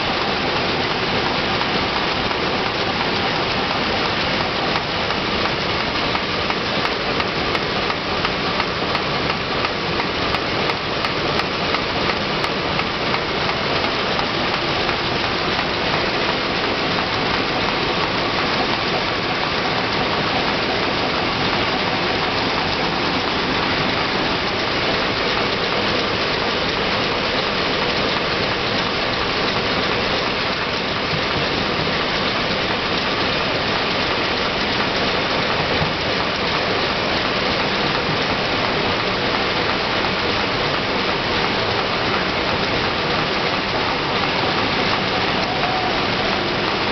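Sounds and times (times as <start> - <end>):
machine running steadily: 0.0 - 46.9.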